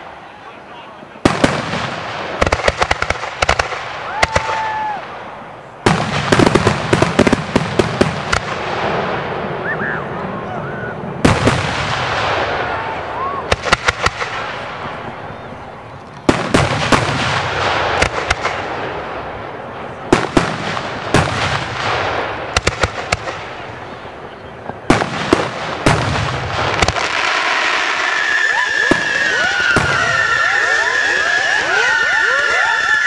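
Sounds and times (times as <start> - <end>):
hissing crackling fireworks: 0.0 - 33.0.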